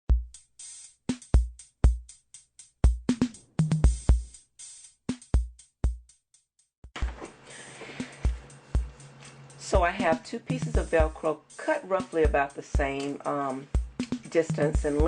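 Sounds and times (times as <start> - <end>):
electronic drum machine beat: 0.1 - 6.2, 7.9 - 15.0.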